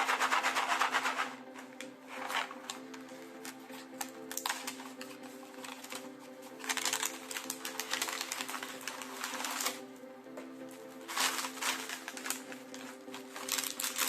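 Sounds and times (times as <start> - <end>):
snack packaging crackling: 0.0 - 9.9, 11.0 - 14.0
quiet background music: 0.0 - 14.0.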